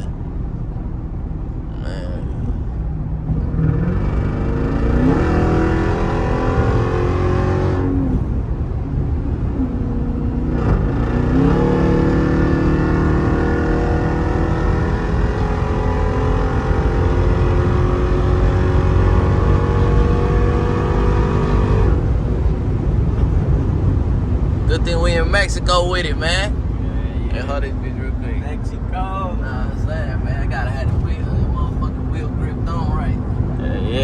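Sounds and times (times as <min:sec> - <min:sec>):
car engine accelerating hard: 0:02.0 - 0:34.0.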